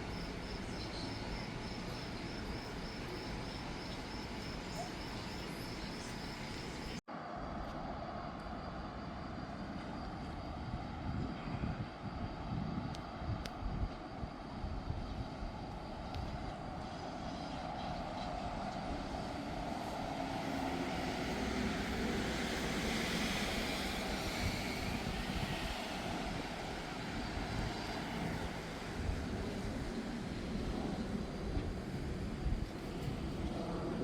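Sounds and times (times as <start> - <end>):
passing vehicle rumble and hiss: 0.0 - 34.0.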